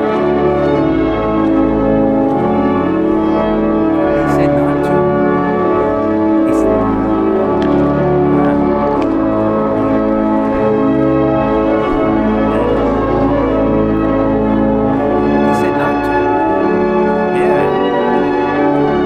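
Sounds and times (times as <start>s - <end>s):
church organ chords: 0.0s - 19.0s.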